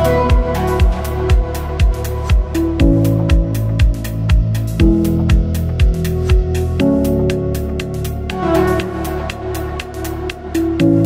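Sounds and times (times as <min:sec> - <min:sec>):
chill electronic music: 0:00.0 - 0:11.0.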